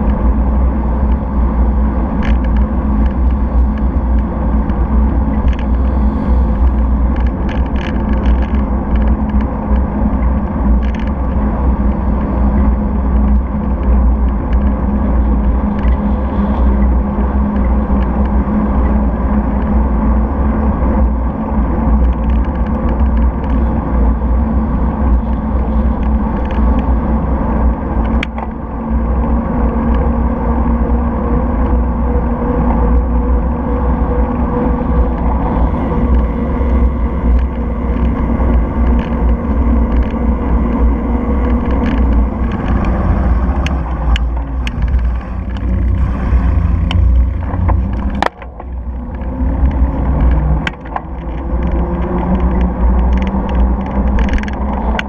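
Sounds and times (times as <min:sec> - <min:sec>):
sharp clicks and rattles: 0:00.0 - 0:30.1, 0:32.6 - 0:55.0
bicycle tyres rolling on tarmac: 0:00.0 - 0:55.0
wind buffeting microphone: 0:00.0 - 0:55.0.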